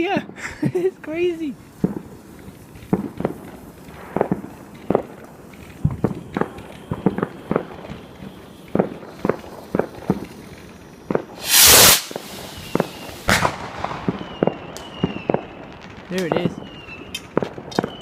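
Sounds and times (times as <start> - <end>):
fireworks popping and banging: 0.0 - 18.0.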